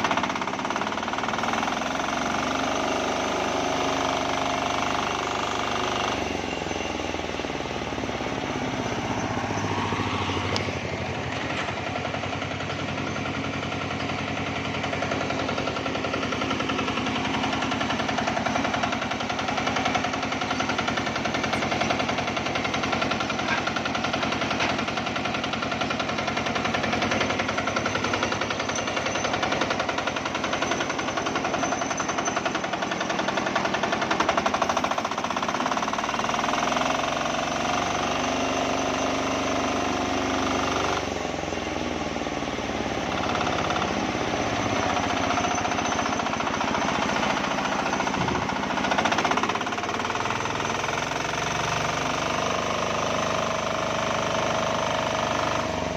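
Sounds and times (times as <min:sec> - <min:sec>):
diesel engine knocking: 0:00.0 - 0:55.9.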